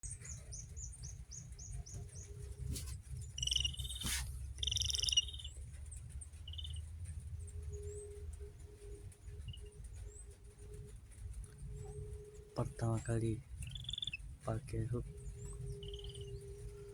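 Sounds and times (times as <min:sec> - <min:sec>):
bird rattling calls: 0:00.0 - 0:12.8, 0:13.4 - 0:16.9
low rumble: 0:00.0 - 0:16.9.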